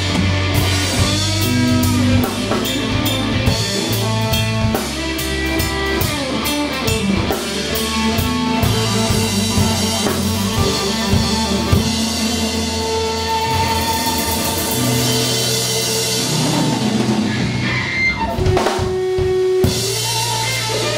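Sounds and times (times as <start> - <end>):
drum kit: 0.0 - 20.9
electric bass: 0.0 - 20.9
electric guitar lead notes: 0.0 - 20.9.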